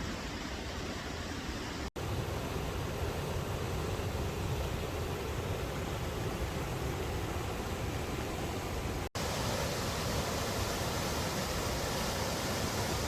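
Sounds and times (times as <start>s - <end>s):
small waterfall roaring: 0.0s - 13.0s.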